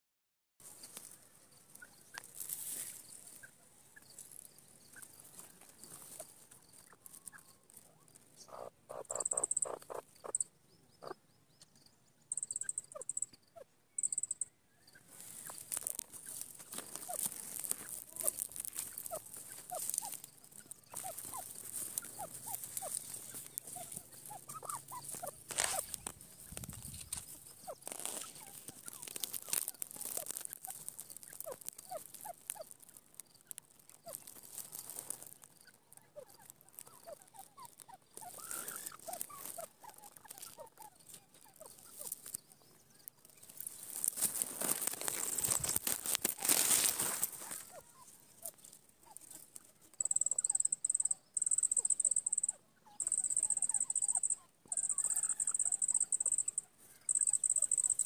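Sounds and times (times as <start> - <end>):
bird pecking and scratching: 0.6 - 10.4, 15.0 - 52.4.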